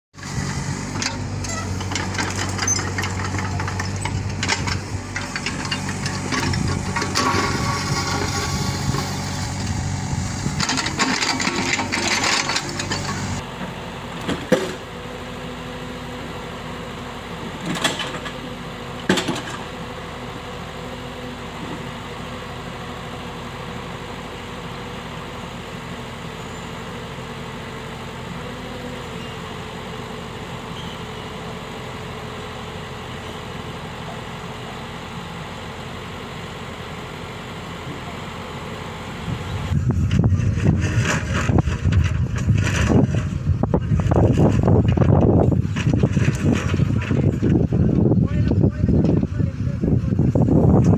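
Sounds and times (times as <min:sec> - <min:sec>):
excavator engine running: 0:00.2 - 0:50.9.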